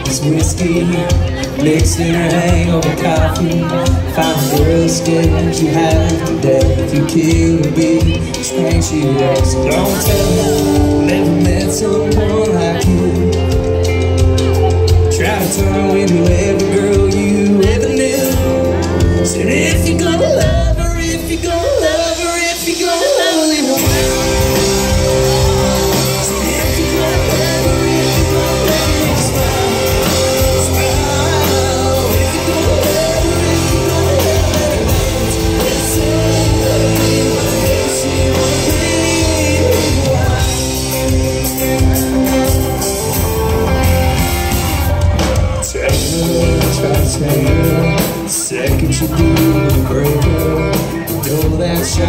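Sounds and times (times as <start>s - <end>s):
country band playing: 0.0s - 52.0s
man singing lead vocal: 0.0s - 52.0s.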